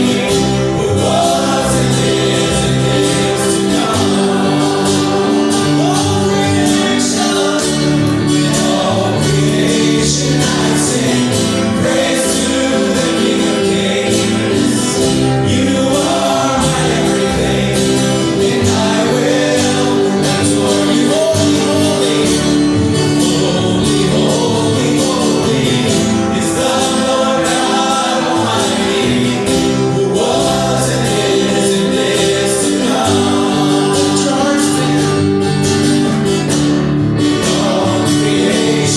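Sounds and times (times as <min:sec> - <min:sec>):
instrumental backing: 0:00.0 - 0:38.9
voices singing gospel: 0:00.0 - 0:38.9.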